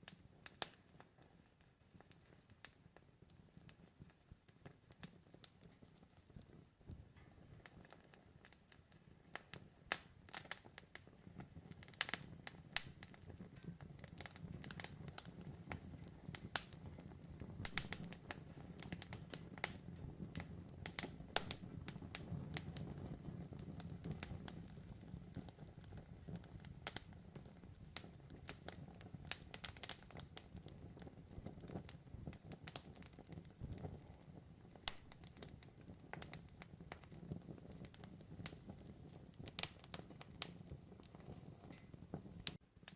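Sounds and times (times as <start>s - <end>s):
campfire crackling and popping: 0.0s - 42.9s
rush of burning flames: 0.0s - 42.9s.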